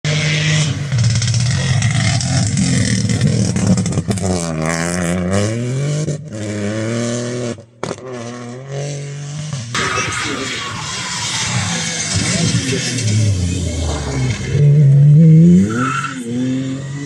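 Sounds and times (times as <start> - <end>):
rally car engines revving: 0.1 - 17.0.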